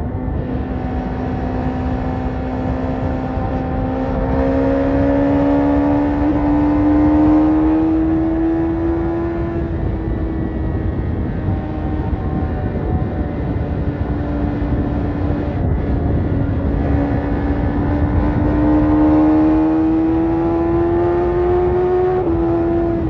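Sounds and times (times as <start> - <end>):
constant rushing noise: 0.0 - 23.0
motorcycle engine running: 0.0 - 23.0.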